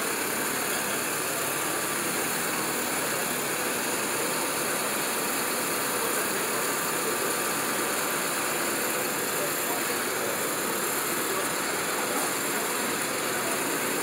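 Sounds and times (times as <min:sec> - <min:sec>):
tow truck engine running: 0:00.0 - 0:14.0.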